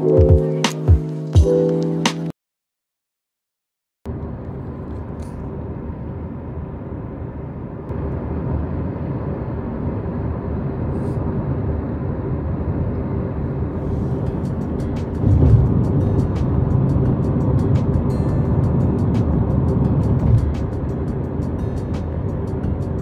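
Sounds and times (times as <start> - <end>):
car road and engine noise: 4.1 - 23.0.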